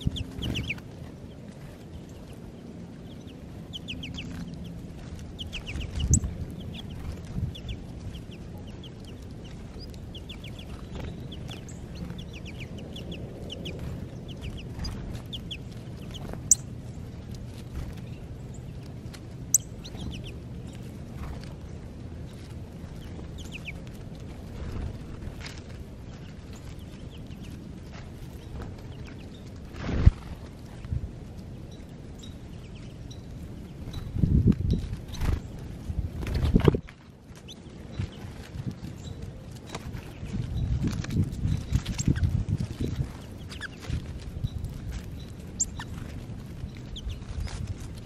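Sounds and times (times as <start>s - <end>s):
low background rumble: 0.0s - 48.0s
songbirds chirping: 0.0s - 48.0s.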